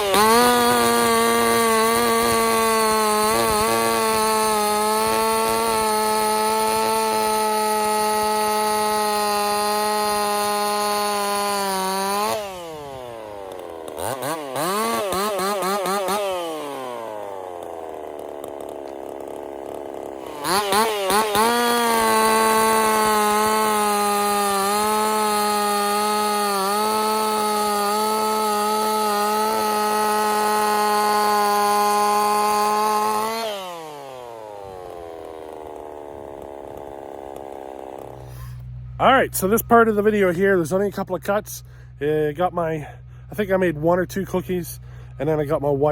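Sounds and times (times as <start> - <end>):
chainsaw revving and idling: 0.0 - 45.9.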